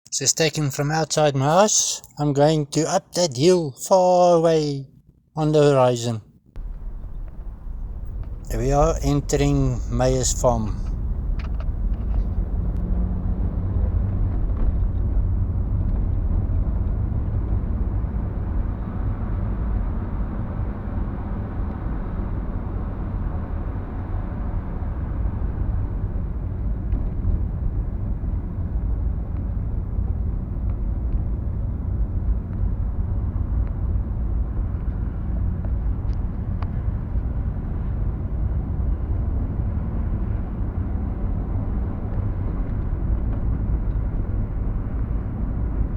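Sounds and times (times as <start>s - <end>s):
car engine and road noise: 6.6s - 45.9s.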